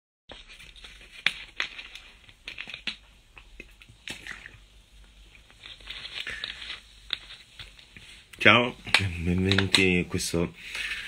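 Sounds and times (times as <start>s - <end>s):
rustling: 0.3s - 11.0s.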